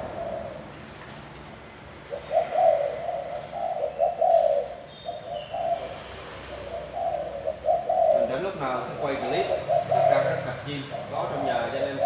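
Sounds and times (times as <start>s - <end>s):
dove cooing: 0.0s - 1.0s, 2.0s - 12.0s.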